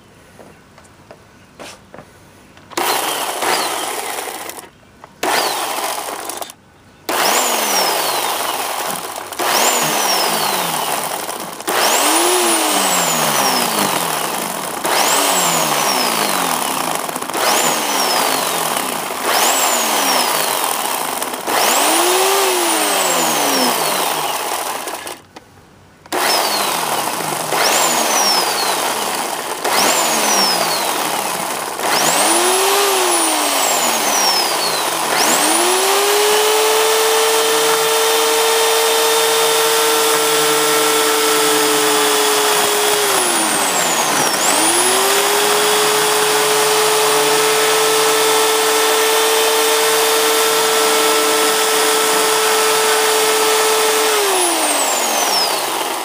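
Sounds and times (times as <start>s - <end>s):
chainsaw revving: 2.7s - 25.4s, 26.1s - 56.0s.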